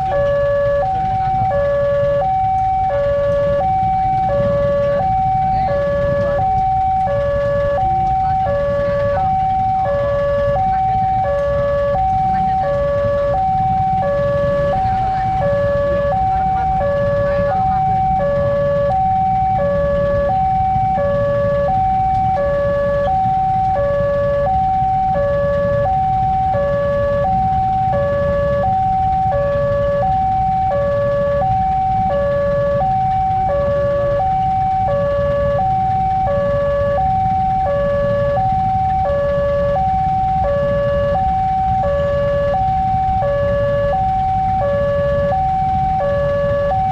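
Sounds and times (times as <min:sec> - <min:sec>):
steady low rumble: 0:00.0 - 0:46.9
two-tone crossing alarm: 0:00.0 - 0:46.9.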